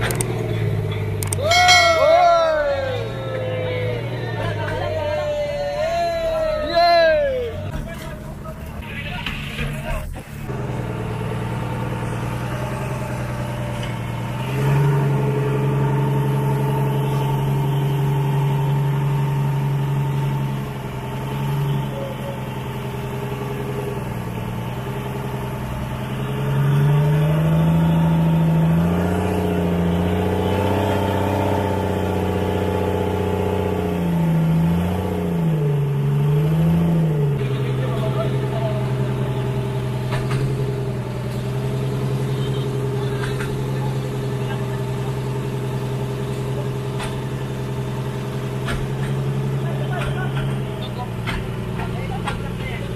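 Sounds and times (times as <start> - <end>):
boat engine revving: 0.0 - 7.8, 9.0 - 52.9.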